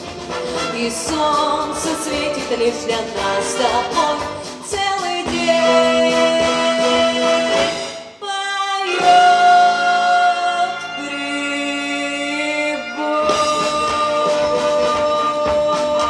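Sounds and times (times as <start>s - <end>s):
brass band playing: 0.0s - 16.0s.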